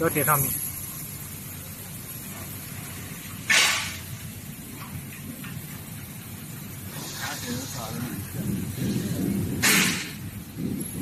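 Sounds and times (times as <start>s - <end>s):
workshop hall background noise: 0.0s - 11.0s.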